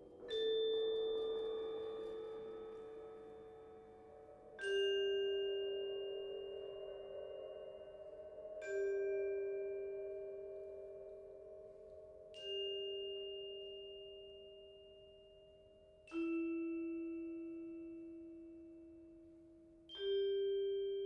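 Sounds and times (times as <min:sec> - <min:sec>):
mallet percussion notes: 0:00.0 - 0:21.0.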